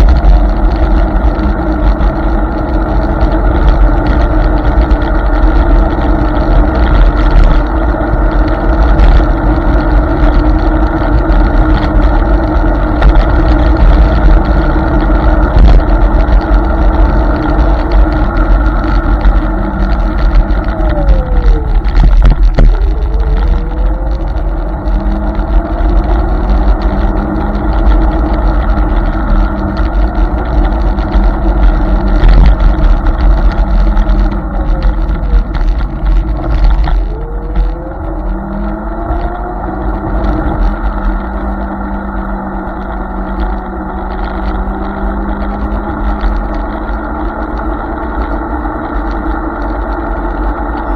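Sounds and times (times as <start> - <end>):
electric motor whine: 0.0 - 50.9
wind and road rumble: 0.0 - 50.9.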